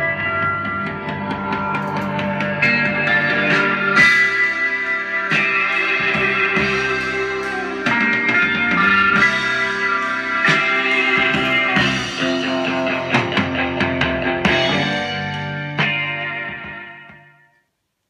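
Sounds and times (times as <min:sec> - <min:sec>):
recorded music through speakers: 0:00.0 - 0:17.8.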